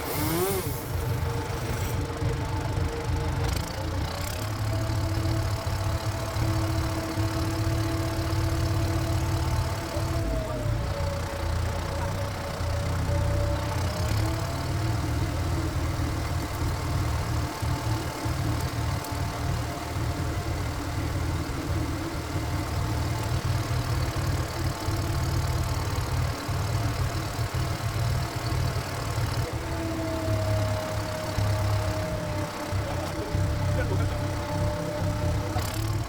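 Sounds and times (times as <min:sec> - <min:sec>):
diesel engine throbbing: 0:00.0 - 0:36.0.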